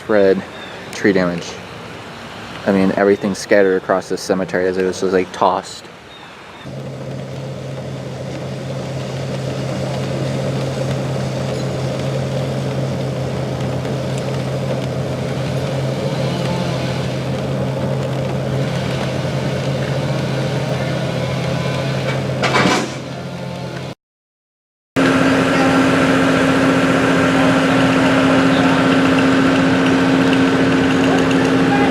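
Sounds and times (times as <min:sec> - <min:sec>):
car engine and road noise: 0:00.0 - 0:24.0, 0:25.0 - 0:31.9.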